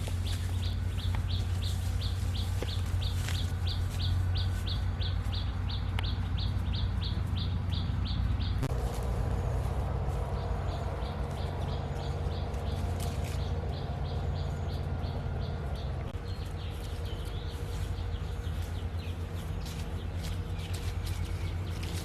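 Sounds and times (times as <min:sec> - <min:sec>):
bird chirping: 0:00.0 - 0:22.0
steady low rumble: 0:00.0 - 0:22.0.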